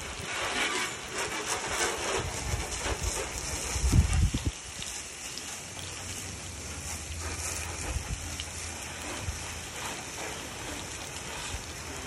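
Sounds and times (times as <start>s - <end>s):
hose water spraying on truck: 0.0s - 12.0s.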